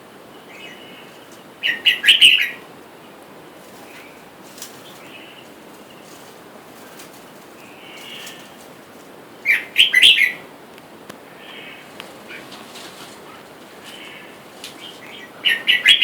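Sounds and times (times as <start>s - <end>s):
bulbuls chattering calls: 0.4s - 16.0s.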